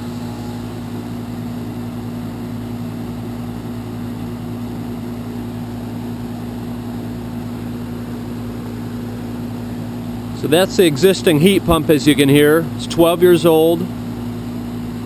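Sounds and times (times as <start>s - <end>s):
heat pump humming loudly: 0.0s - 15.0s.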